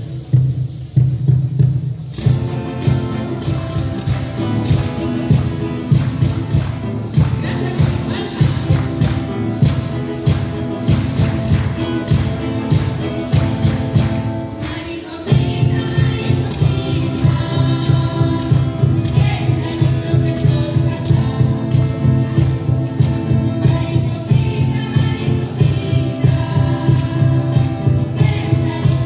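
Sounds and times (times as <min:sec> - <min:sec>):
guitars playing folk music: 0:00.0 - 0:29.0
tambourine: 0:00.0 - 0:29.0
people singing: 0:02.2 - 0:29.0.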